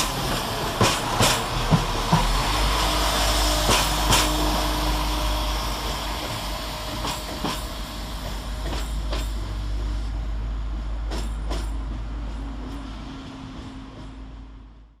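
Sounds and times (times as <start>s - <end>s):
train wheels clicking over rail joint: 0.0s - 9.6s, 11.0s - 14.3s
low engine rumble: 0.0s - 15.0s.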